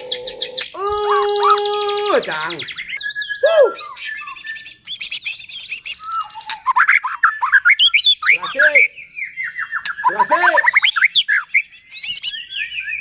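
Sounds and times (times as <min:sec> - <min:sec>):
bird singing varied song: 0:00.0 - 0:13.0.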